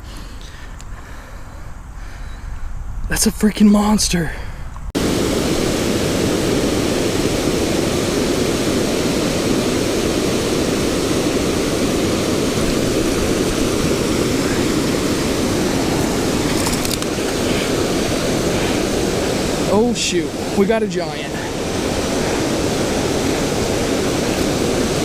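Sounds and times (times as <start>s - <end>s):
river water rushing over riffle: 5.0s - 25.0s.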